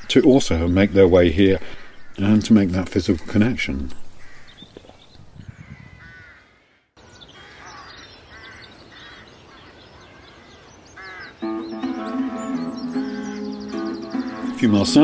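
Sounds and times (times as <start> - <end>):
birds calling: 0.0 - 15.0
small birds chirping: 0.0 - 15.0.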